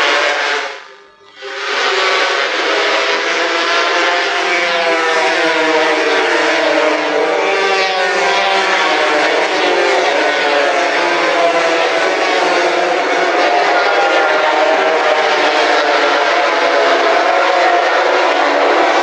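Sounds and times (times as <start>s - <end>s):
racing motorcycles at high revs: 0.0s - 19.0s.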